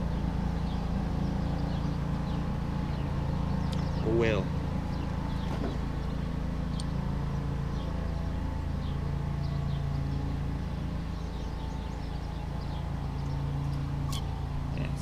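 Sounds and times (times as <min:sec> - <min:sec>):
engine idling: 0:00.0 - 0:15.0
faint bird chirps: 0:00.1 - 0:15.0.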